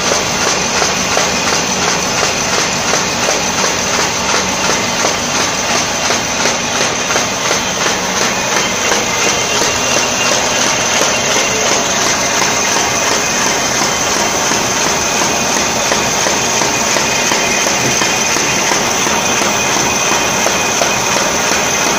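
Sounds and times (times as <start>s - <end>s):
machine clattering with fast ticks: 0.0s - 21.9s.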